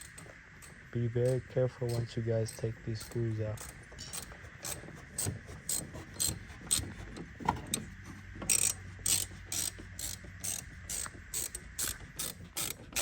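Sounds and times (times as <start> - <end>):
wrench ratchet clicks: 0.0 - 6.9, 8.5 - 13.0.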